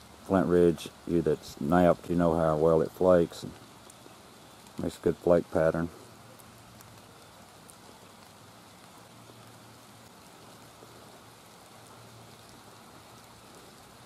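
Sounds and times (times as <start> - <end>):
light rain falling: 0.0 - 14.0.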